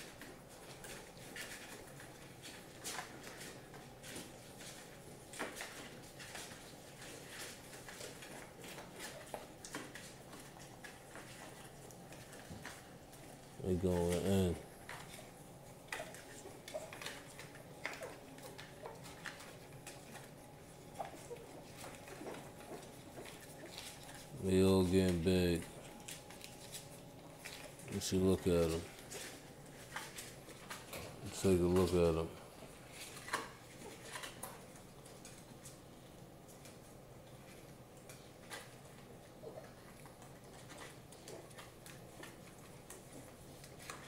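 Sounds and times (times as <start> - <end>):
puppies suckling clicks: 0.0 - 44.0.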